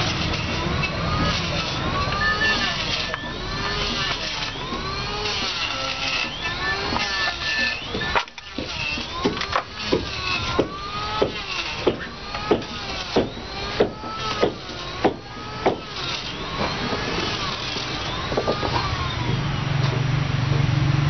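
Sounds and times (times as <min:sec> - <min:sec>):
hand tool striking timber: 0:00.0 - 0:18.9
low motor hum: 0:00.0 - 0:21.0.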